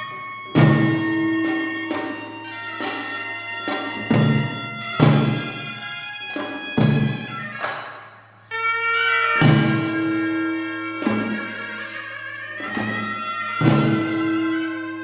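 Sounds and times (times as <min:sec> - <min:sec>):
double-reed wind instrument: 0:00.0 - 0:15.0
drum strokes: 0:00.1 - 0:08.0, 0:09.4 - 0:11.5, 0:12.6 - 0:14.7.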